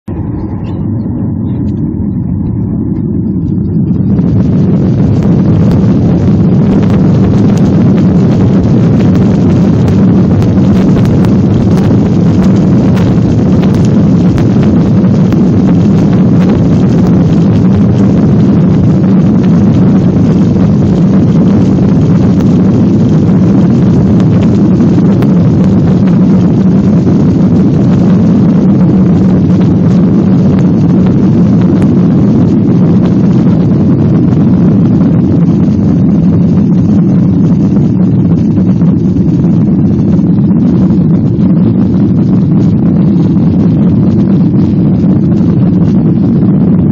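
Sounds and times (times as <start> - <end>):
jet engines at takeoff thrust: 0.0 - 46.9.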